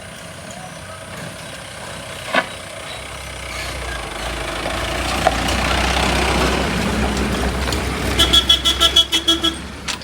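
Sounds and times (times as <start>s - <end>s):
heavy vehicle engine rumbling: 0.0s - 10.0s.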